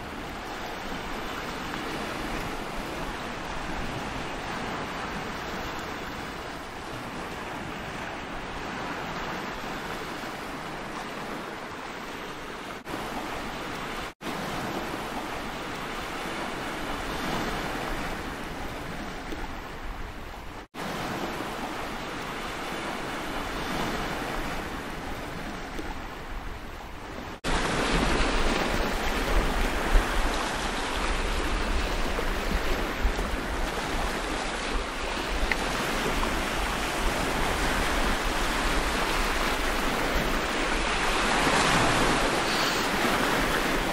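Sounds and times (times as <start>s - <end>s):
surf on rocky shore: 0.0s - 43.9s
wind rumble on microphone: 0.0s - 43.9s.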